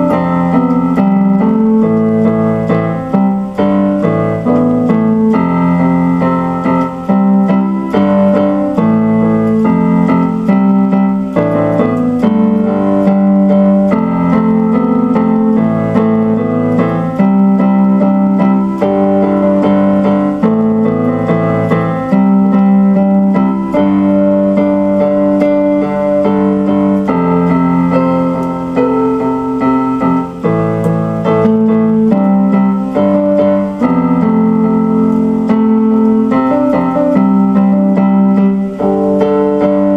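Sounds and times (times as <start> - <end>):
slow piano chords on keyboard: 0.0 - 39.9.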